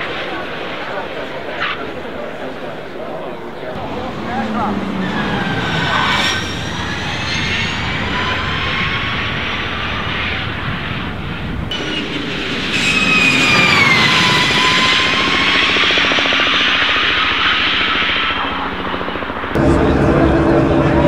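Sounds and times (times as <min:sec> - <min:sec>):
wind noise: 0:03.8 - 0:21.0.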